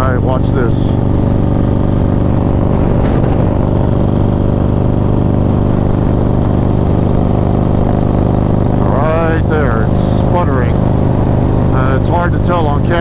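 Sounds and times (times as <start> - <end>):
motorcycle engine sputtering: 0.0 - 13.0.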